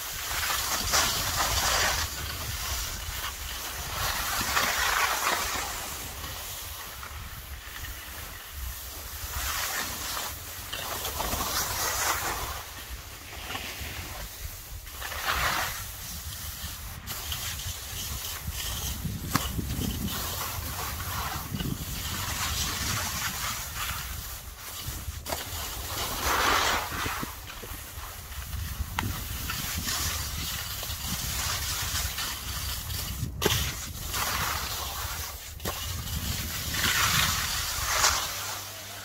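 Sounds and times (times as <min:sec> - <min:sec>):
skis scraping over packed snow: 0:00.0 - 0:39.0
wind rumbling on microphone: 0:00.0 - 0:39.0.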